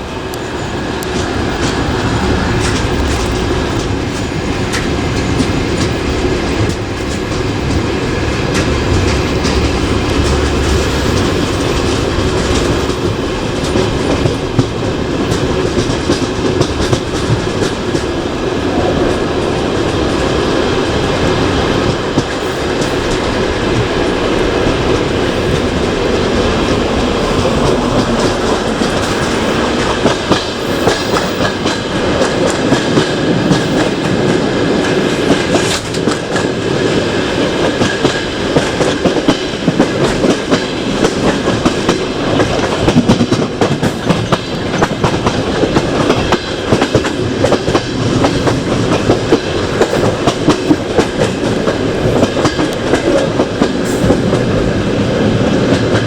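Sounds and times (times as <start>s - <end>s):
train rolling noise: 0.0s - 56.0s
wheels clacking over rail joints: 0.0s - 56.0s.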